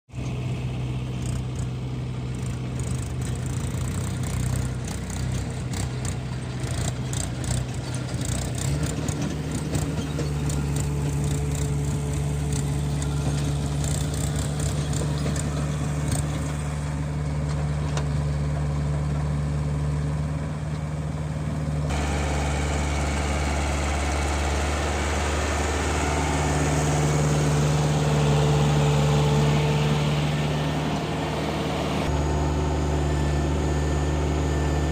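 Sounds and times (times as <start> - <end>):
heavy diesel engine running: 0.1 - 34.9.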